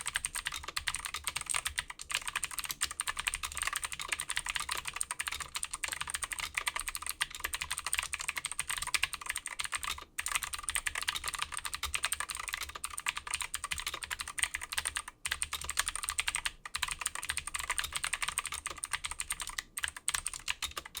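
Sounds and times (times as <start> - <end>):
clicky mechanical keyboard typing: 0.0 - 21.0.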